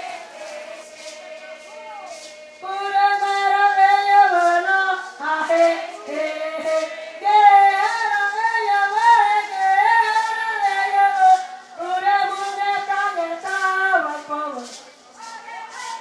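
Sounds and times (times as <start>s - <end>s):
high voices singing unaccompanied: 0.0s - 16.0s.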